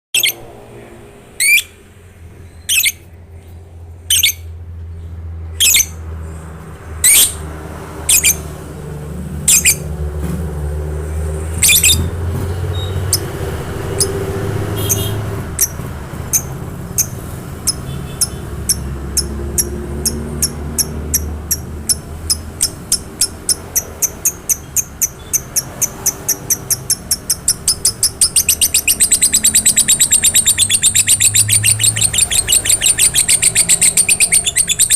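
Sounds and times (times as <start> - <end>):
bird chirping: 0.1 - 0.5, 1.4 - 3.5, 4.1 - 6.0, 7.0 - 7.4, 8.0 - 8.5, 9.4 - 9.9, 11.5 - 34.9.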